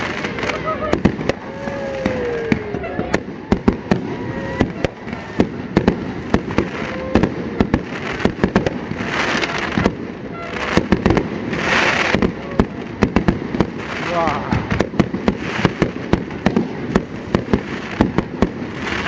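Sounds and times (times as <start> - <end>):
fireworks bangs: 0.0 - 19.0
fireworks crackling hiss: 0.0 - 19.0.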